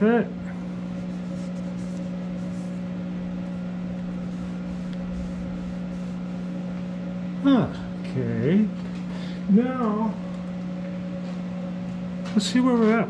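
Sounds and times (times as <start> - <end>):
lathe humming: 0.0 - 13.0.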